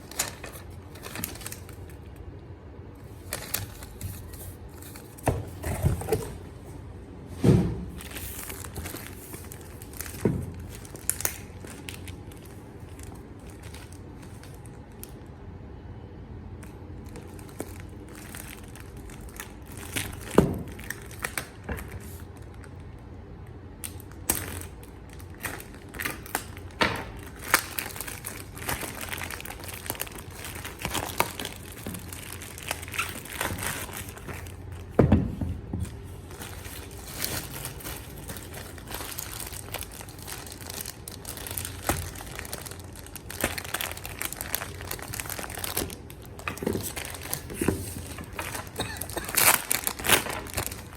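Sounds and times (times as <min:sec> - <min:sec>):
packaging crinkling and rustling: 0:00.0 - 0:02.3, 0:03.0 - 0:06.8, 0:07.8 - 0:15.3, 0:16.6 - 0:23.0, 0:23.8 - 0:50.9.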